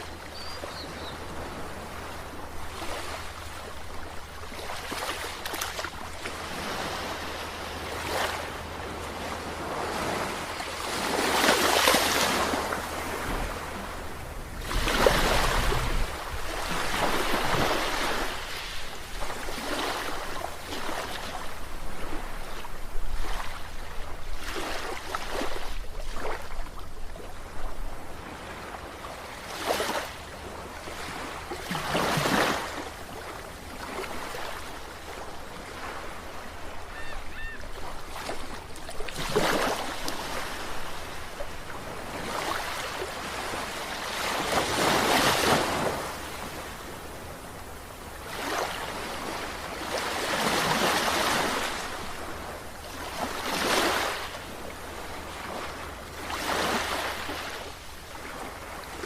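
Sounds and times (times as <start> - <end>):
sea waves washing ashore: 0.0 - 59.0.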